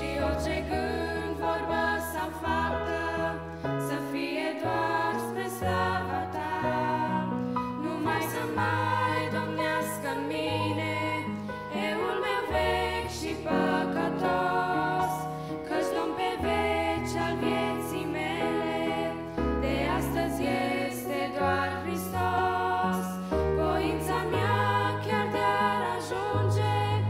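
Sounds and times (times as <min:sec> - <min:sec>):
digital keyboard playing hymn: 0:00.0 - 0:27.0.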